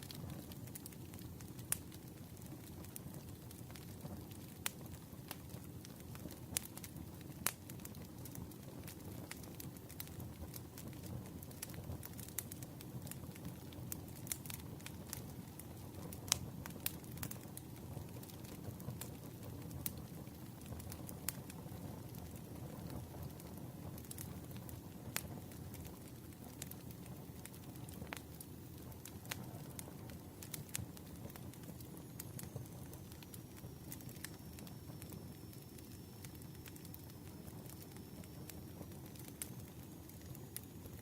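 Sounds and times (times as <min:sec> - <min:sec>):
campfire burning: 0:00.0 - 0:41.0
wood crackling and popping: 0:00.0 - 0:41.0.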